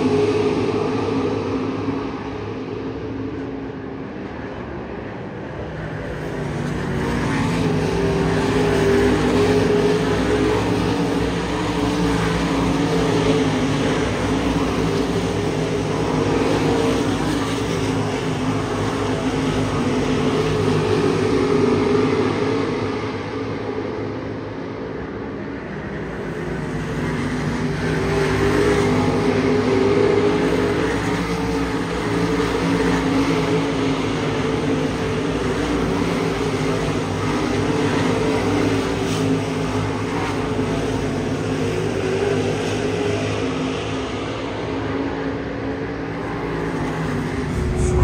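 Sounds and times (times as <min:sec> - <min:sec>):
race car engines droning: 0:00.0 - 0:48.0.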